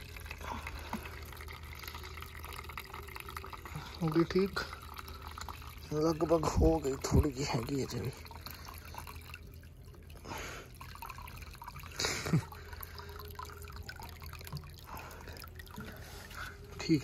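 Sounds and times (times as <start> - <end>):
water trickling and dripping: 0.0 - 17.0.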